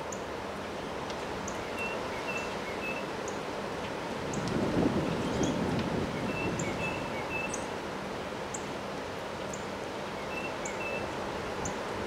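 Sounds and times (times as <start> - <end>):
gusty wind through trees: 0.0 - 12.0.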